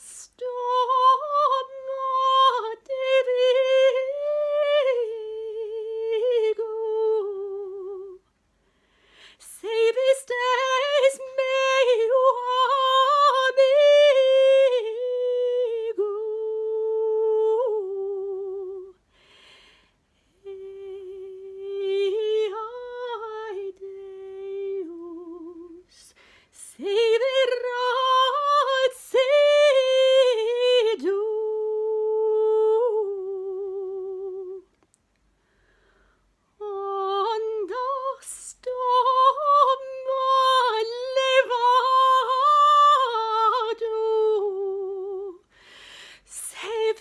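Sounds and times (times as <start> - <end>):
soprano voice singing: 0.0 - 8.3, 9.4 - 19.1, 20.2 - 34.8, 36.5 - 47.0.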